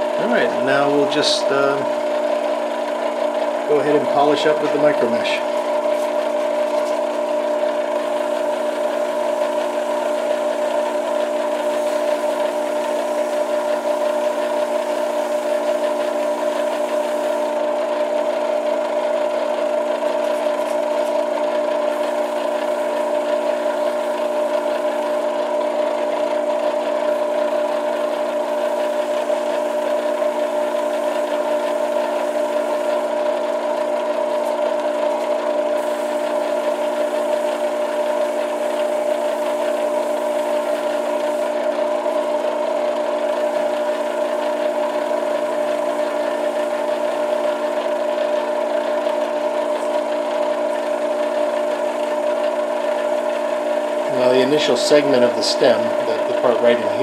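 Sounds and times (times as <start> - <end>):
lathe motor whining: 0.0 - 57.0.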